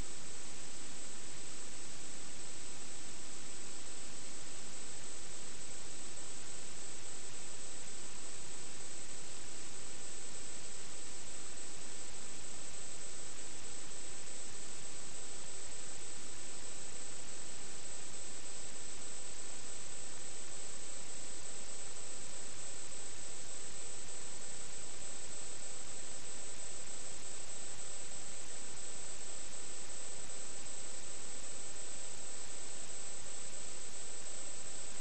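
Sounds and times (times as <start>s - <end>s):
electronic hiss: 0.0s - 35.0s.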